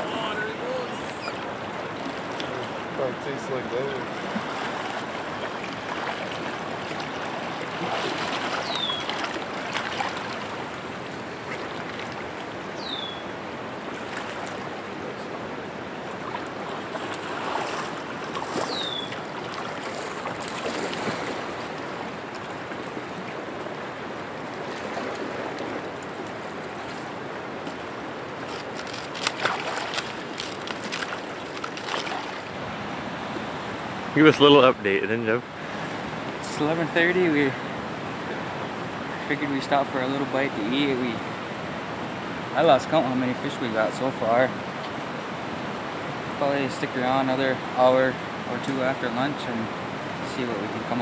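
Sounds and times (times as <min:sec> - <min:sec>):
fast-flowing river rushing: 0:00.0 - 0:51.0.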